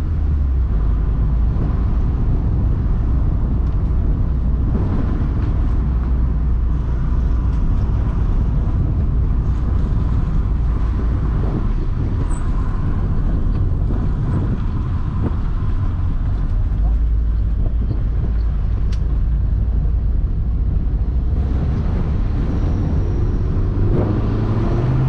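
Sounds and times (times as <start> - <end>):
low engine and road rumble: 0.0 - 25.0.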